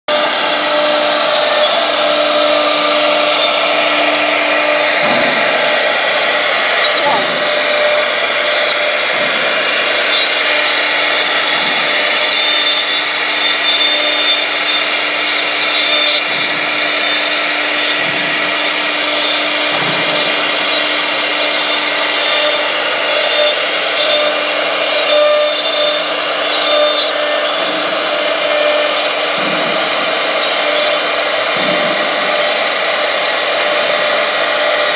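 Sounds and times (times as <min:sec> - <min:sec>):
router bit cutting wood: 0:00.0 - 0:34.9
wood router spindle whine: 0:00.0 - 0:34.9.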